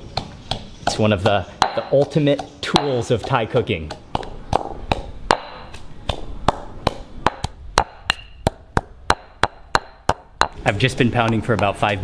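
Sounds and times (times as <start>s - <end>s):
stone pestle pounding in mortar: 0.0s - 12.0s.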